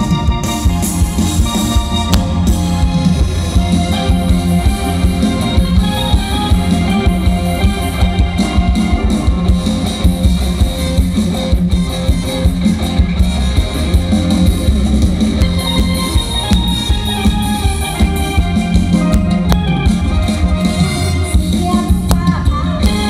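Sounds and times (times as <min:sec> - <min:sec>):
drum kit: 0:00.0 - 0:23.0
plucked string lead: 0:00.0 - 0:23.0.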